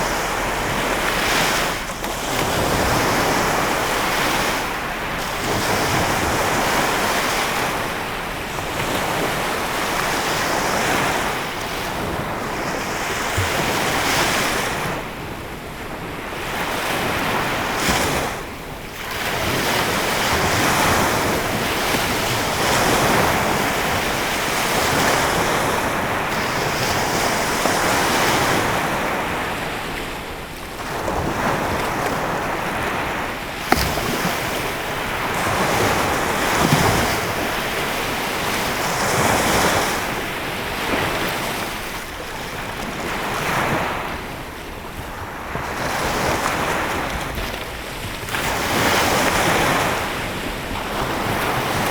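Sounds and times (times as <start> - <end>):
waves washing onto shore: 0.0 - 51.9.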